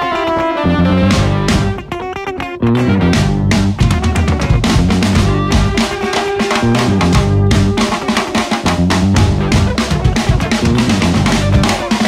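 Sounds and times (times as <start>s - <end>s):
drum kit groove: 0.0s - 12.0s
electric guitar riff: 0.0s - 12.0s.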